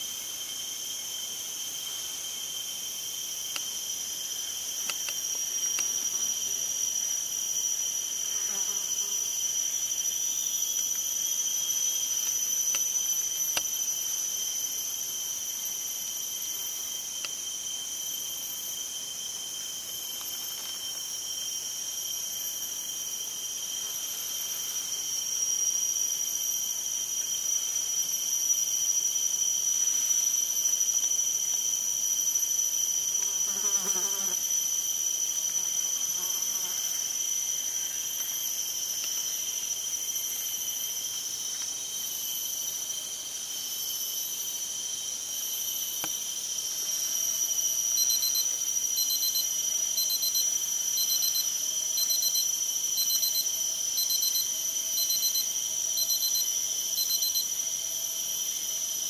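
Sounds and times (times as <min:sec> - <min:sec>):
insects shrilling: 0:00.0 - 0:59.0.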